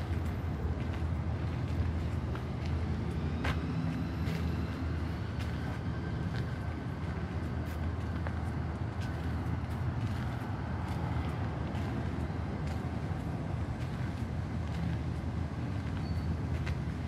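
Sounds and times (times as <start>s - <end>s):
distant city traffic rumble: 0.0s - 17.0s
soft footsteps on gravel: 0.0s - 17.0s.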